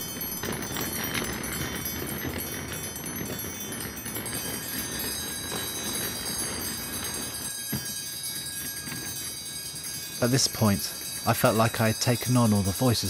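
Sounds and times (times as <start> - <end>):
high ringing chimes: 0.0 - 13.0.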